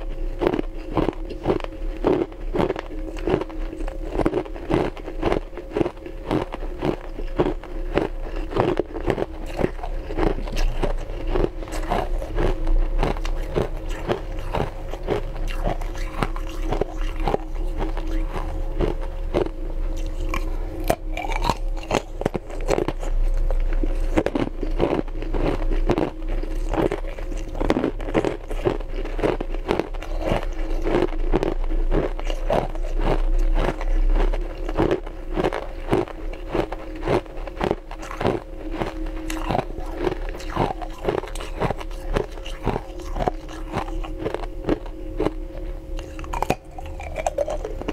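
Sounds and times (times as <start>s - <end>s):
faint steady hum: 0.0s - 47.9s
teeth crunching ice: 0.0s - 47.9s.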